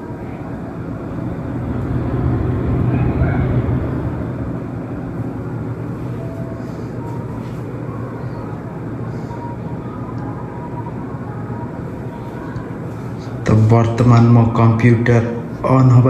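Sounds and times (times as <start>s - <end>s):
computer fans whirring: 0.0s - 16.0s.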